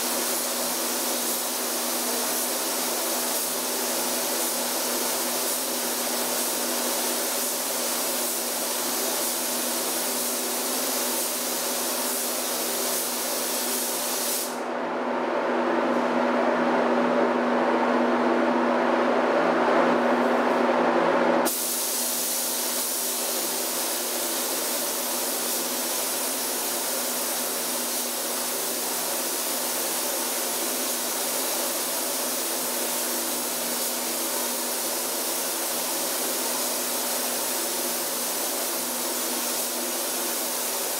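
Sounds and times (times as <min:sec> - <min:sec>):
paint spray gun hissing: 0:00.0 - 0:14.6, 0:21.5 - 0:40.9.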